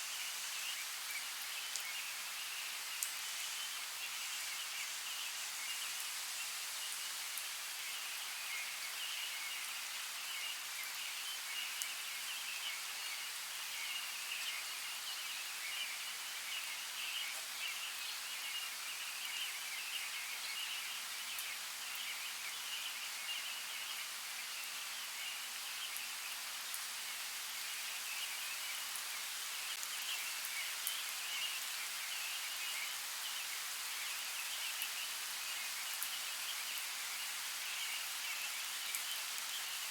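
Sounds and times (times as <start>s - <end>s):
steady rain hiss: 0.0s - 39.9s
faint ticks of raindrops: 0.1s - 6.2s, 6.8s - 12.8s, 17.2s - 19.8s, 20.4s - 24.7s, 25.3s - 39.9s.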